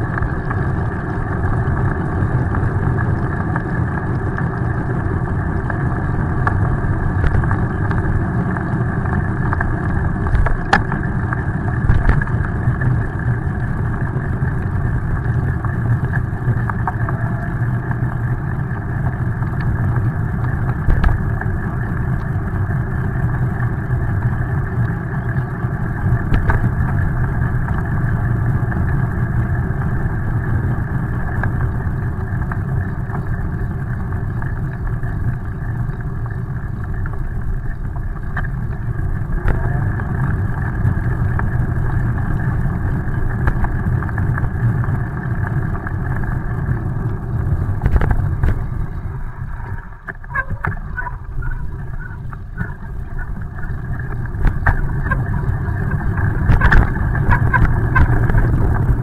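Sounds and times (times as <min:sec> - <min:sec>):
wind and wet road rush: 0:00.0 - 0:59.0.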